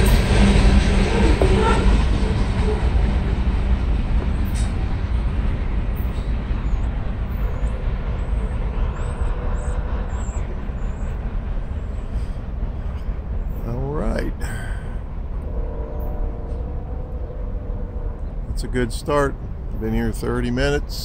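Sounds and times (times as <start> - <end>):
train cars rumbling on rails: 0.0 - 21.0.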